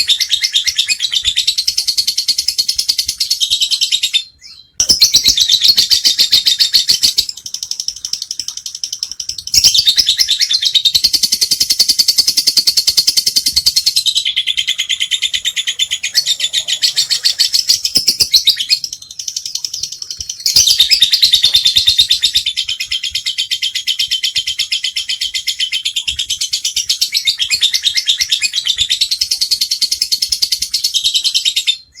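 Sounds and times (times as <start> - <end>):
lovebird chattering: 0.0 - 26.0.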